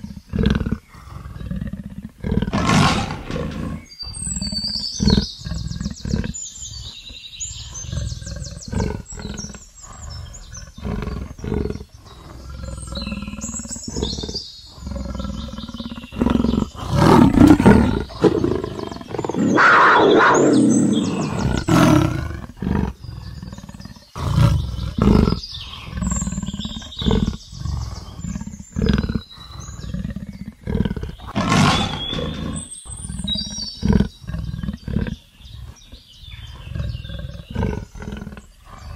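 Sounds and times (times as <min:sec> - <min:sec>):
leopard roaring: 0:00.0 - 0:38.9.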